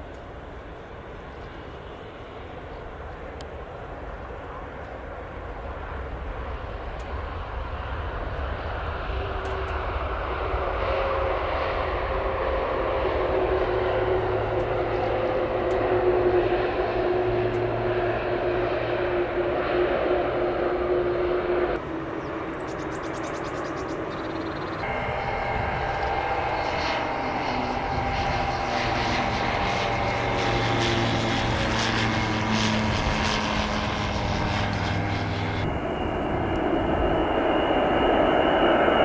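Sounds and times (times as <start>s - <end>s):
airliner engines roaring: 0.0s - 39.0s
jet engine whine: 0.0s - 39.0s.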